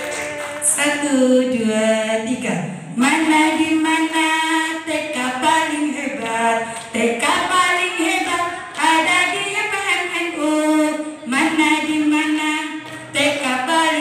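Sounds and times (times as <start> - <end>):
woman singing into microphone: 0.0 - 14.0.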